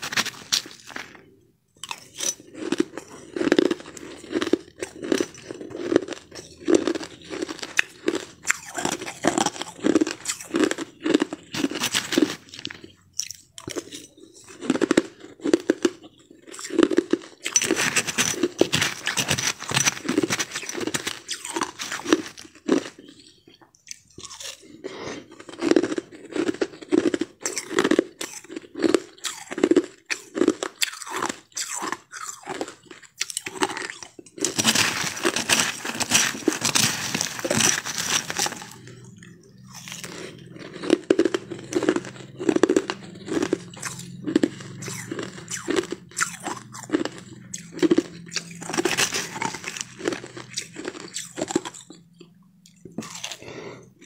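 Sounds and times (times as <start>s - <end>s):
person chewing ice: 0.0s - 54.0s.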